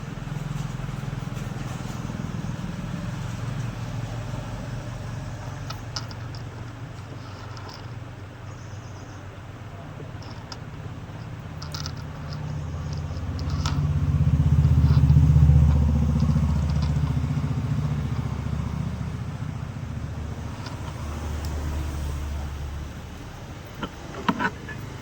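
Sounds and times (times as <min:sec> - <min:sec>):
vehicle engine passing by: 0:00.0 - 0:07.5, 0:09.8 - 0:25.0.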